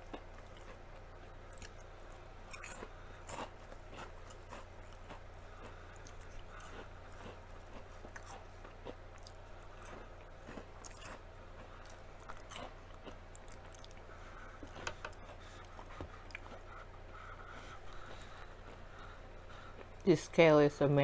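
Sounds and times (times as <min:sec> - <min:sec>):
chewing crunchy food: 0:00.0 - 0:20.1
low steady hum: 0:00.0 - 0:21.0.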